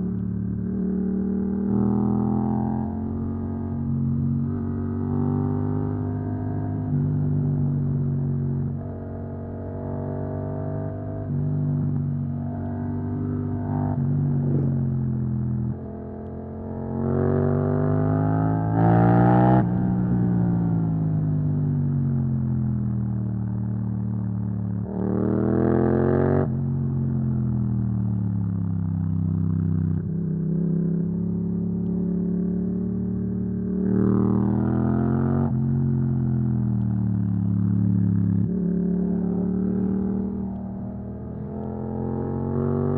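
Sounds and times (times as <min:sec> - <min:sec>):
motorcycle engine revving: 0:00.0 - 0:21.2, 0:29.0 - 0:42.9.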